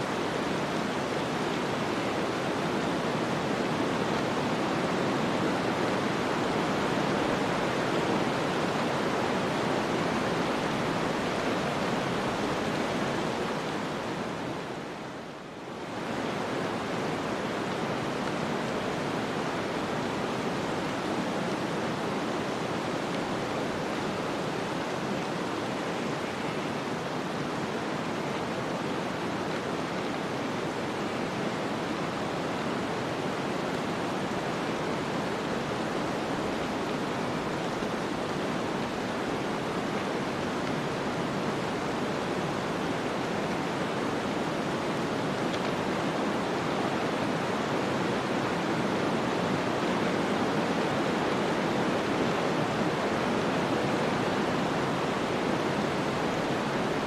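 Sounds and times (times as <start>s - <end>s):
rushing of wind-driven snow: 0.0s - 57.0s.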